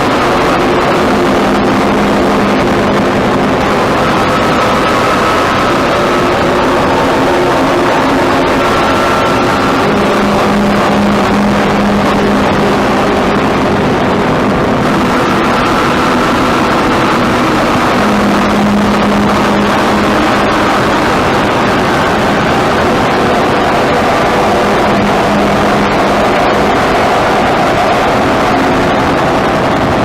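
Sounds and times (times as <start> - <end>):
dense rumbling noise: 0.0 - 30.0
higher drone: 0.0 - 30.0
low drone: 0.0 - 30.0.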